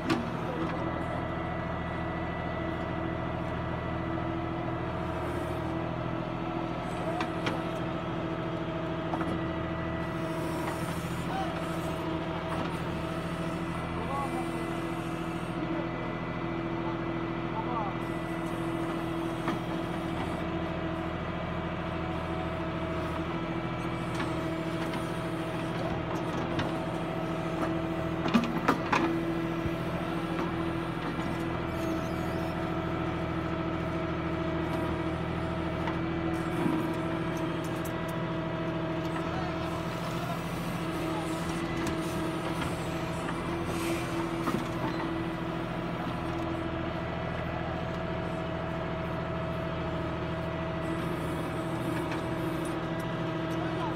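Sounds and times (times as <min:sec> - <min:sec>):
backhoe digging soil: 0:00.0 - 0:53.9
diesel engine running: 0:00.0 - 0:53.9
hydraulic whine: 0:04.8 - 0:17.0, 0:18.0 - 0:53.3.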